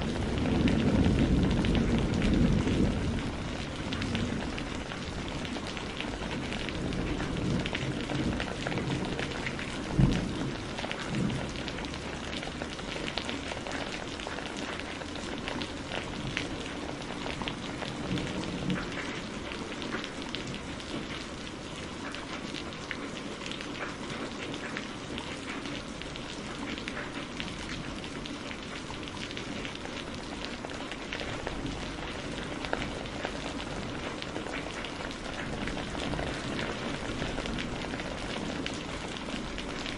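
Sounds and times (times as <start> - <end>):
thunder rumbling: 0.0 - 21.4, 28.9 - 39.9
steady rain: 0.0 - 39.9.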